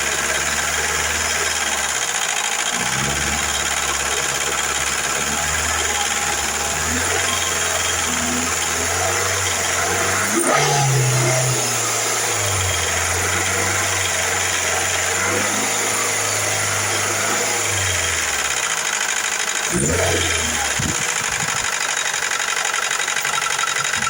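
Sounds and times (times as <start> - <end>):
car engine with ticking lifters: 0.0 - 24.0.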